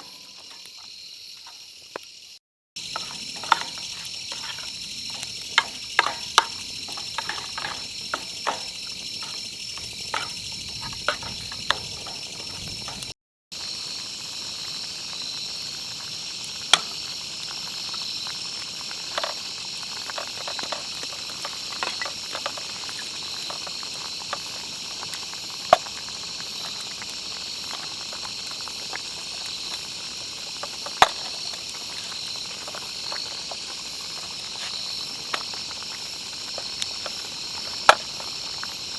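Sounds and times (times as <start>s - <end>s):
insects trilling: 0.0s - 38.9s
sharp pops and clicks: 2.8s - 13.2s, 16.6s - 17.6s, 18.7s - 38.8s.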